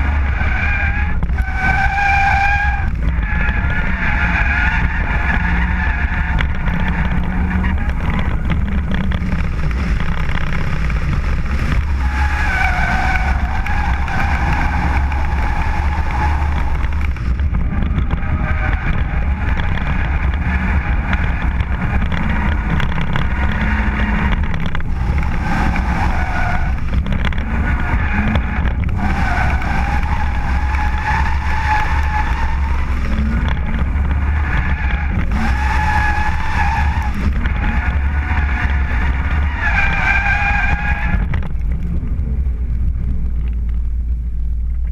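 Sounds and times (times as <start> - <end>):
tyre squeal: 0.0 - 41.4
car engine at high revs: 0.0 - 44.9
wind rumble on microphone: 0.0 - 44.9.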